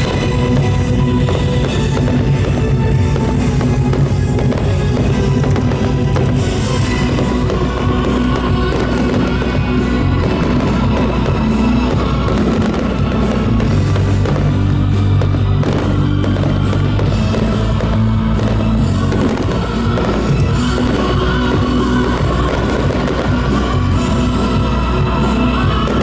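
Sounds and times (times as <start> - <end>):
fireworks bursting and crackling: 0.0 - 26.0
loud show music: 0.0 - 26.0.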